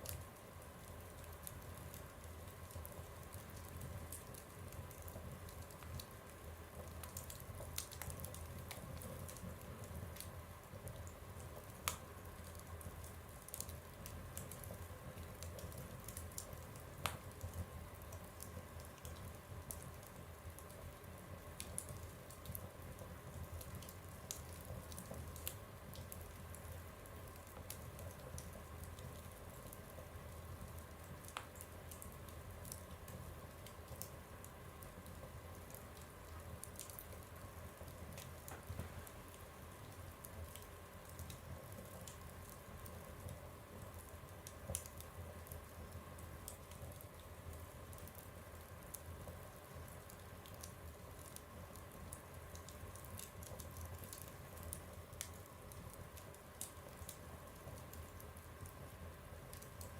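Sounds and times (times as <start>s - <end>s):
fire crackling in a stove: 0.0s - 59.9s.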